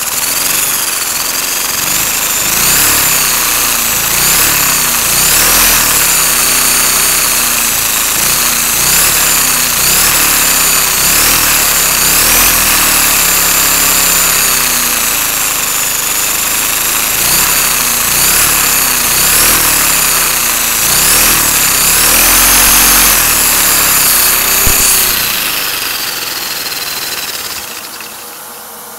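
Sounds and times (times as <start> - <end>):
small electric motor whining: 0.0 - 28.9.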